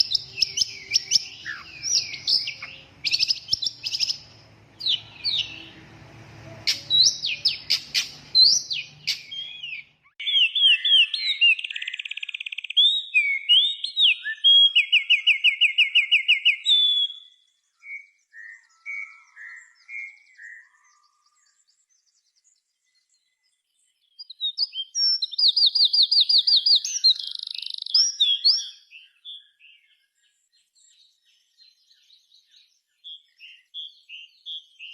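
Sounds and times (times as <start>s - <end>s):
songbird singing with trills: 0.0s - 34.9s.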